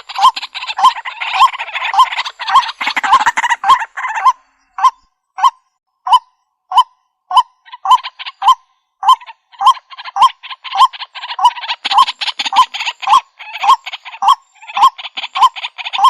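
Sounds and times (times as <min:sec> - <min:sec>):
waterhen harsh croaks: 0:00.0 - 0:05.5, 0:06.1 - 0:16.0.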